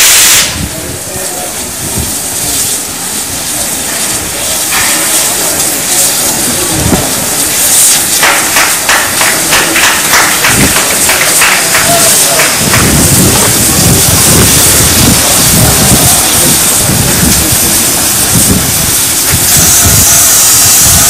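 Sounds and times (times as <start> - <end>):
steam hissing: 0.0 - 21.0
steam locomotive puffs: 0.0 - 21.0.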